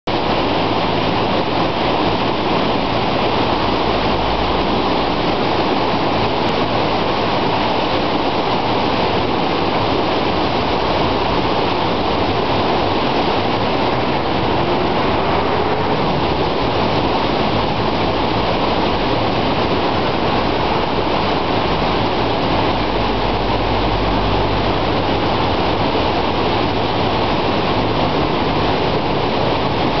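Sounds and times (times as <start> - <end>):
river rushing over rocks: 0.1 - 30.0.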